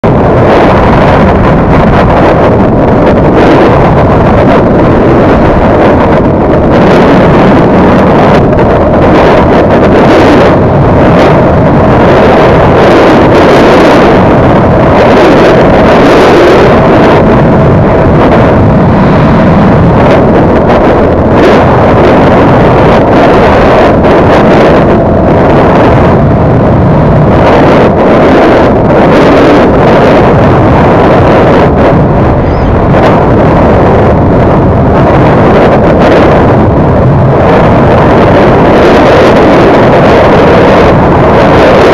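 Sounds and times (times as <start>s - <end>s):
heavy wind rush: 0.0s - 41.9s.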